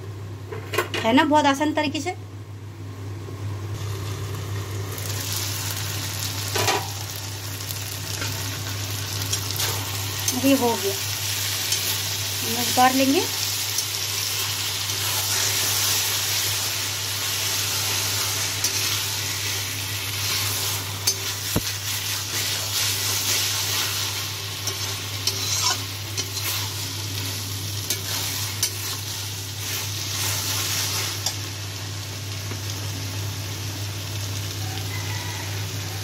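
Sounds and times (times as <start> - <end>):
greens sizzling in a pan: 3.8 - 36.0.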